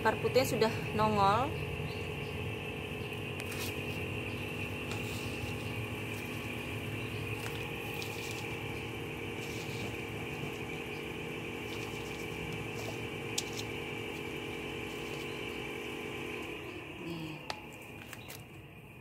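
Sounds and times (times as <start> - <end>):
steady high buzz: 0.0 - 19.0
motor running and winding down: 2.2 - 17.5.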